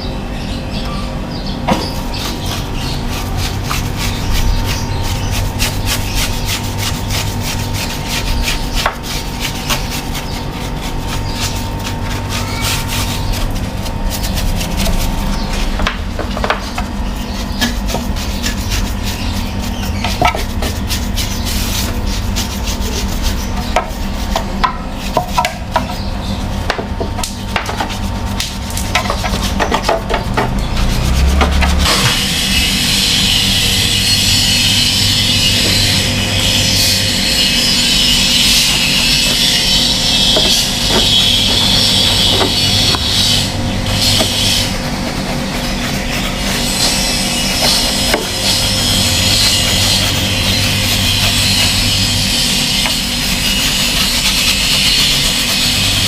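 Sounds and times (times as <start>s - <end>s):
steady mechanical hum: 0.0s - 56.0s
scraping and rubbing on metal unit: 1.4s - 56.0s.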